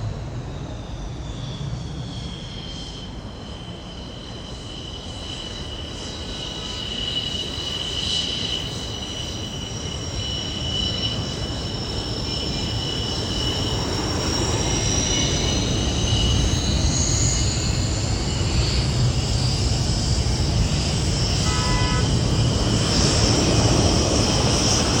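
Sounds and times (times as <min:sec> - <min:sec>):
jet engine roaring: 0:00.0 - 0:25.0.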